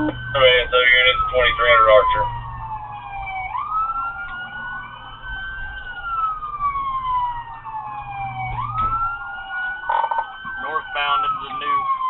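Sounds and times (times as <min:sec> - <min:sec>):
low vehicle hum: 0:00.0 - 0:12.0
police siren wailing: 0:00.0 - 0:12.0.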